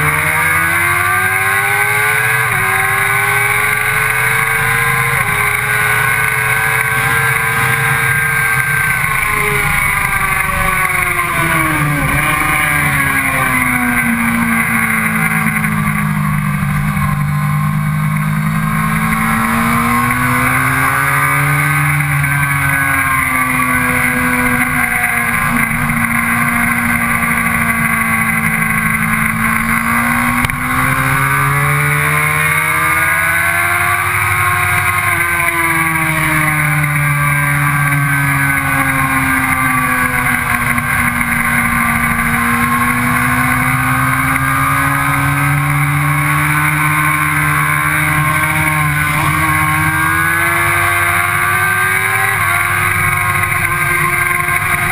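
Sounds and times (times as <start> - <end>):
motorcycle engine running hard: 0.0 - 54.9.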